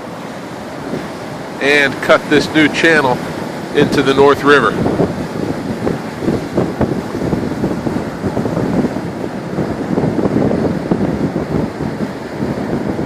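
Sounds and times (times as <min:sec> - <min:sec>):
heavy surf pounding shore: 0:00.0 - 0:13.0
wind buffeting microphone: 0:00.0 - 0:13.0.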